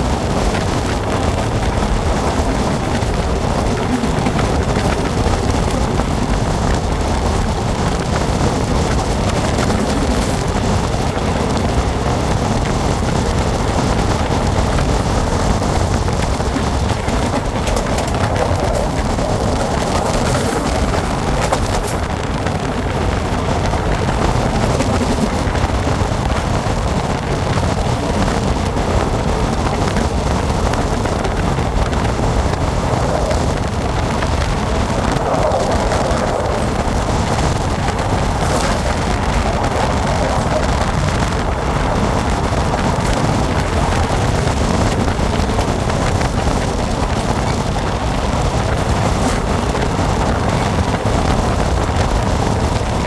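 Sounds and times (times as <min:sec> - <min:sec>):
moving train rumble: 0:00.0 - 0:53.0
wind over microphone: 0:00.0 - 0:53.0.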